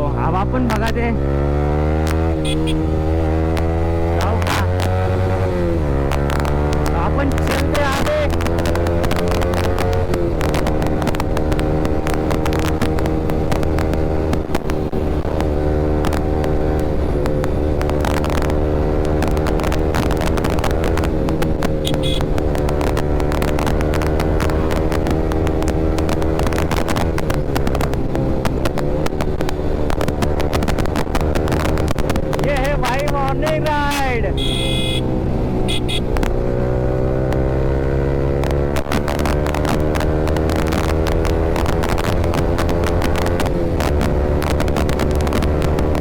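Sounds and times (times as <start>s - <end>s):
motorcycle engine running loud: 0.0s - 46.0s.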